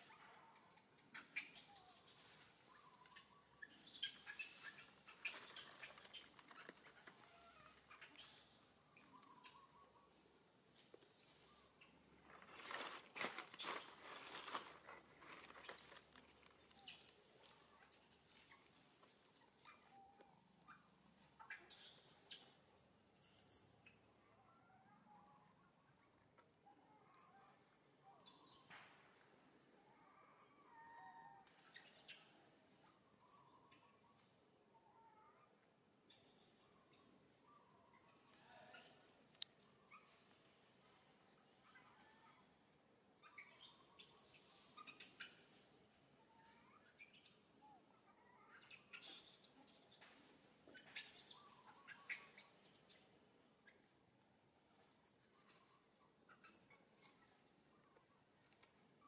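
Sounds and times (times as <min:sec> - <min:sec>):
faint high-pitched chirps: 0:00.0 - 0:10.2, 0:15.2 - 0:29.2, 0:29.8 - 0:59.0.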